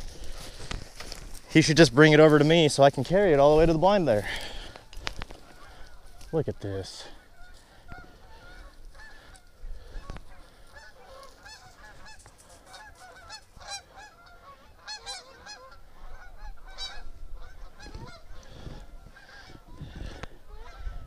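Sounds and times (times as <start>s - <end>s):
geese honking: 1.6s - 21.0s.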